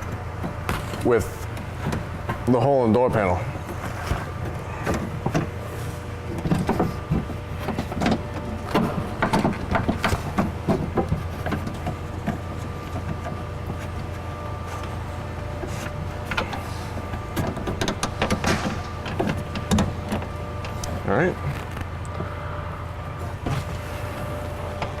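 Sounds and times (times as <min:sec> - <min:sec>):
faint steady whine: 0:00.0 - 0:25.0
steady low hum: 0:00.0 - 0:25.0.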